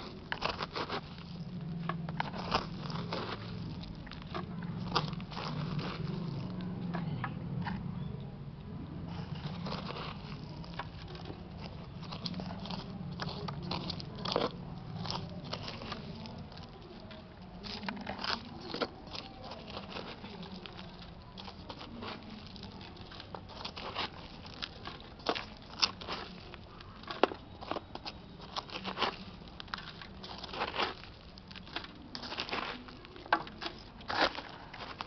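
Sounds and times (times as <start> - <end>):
fingers scraping through dry soil: 0.0 - 6.9, 9.0 - 35.0.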